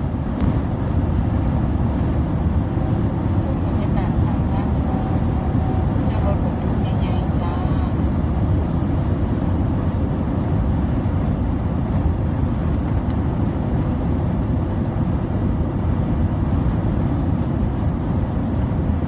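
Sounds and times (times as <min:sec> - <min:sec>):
car road noise from inside cabin: 0:00.0 - 0:19.0.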